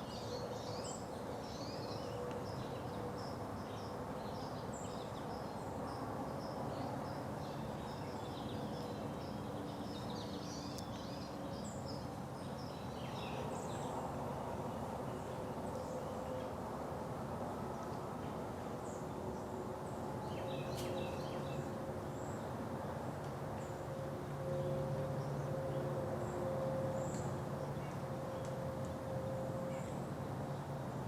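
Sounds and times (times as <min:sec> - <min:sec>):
outdoor ambience hiss: 0:00.0 - 0:31.0.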